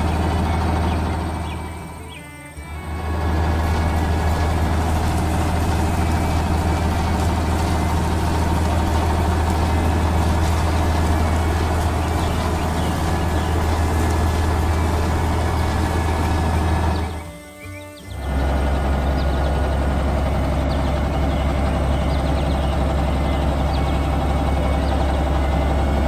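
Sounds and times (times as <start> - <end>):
heavy vehicle engine droning: 0.0 - 26.0.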